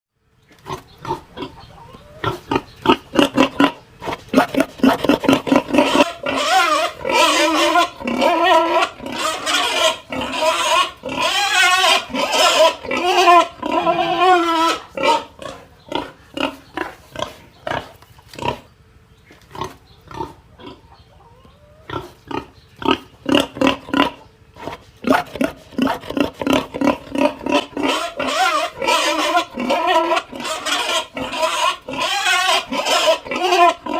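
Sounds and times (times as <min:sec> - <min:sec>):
pig grunting and squealing: 0:00.5 - 0:18.7, 0:19.4 - 0:21.0, 0:21.6 - 0:33.9.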